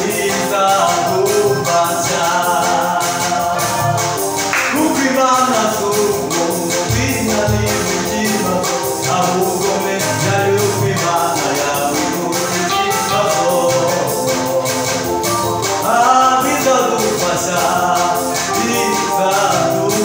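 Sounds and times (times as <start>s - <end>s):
gospel song on electronic keyboard: 0.0s - 20.0s
man singing: 0.0s - 20.0s
shaker-like beat: 0.0s - 20.0s.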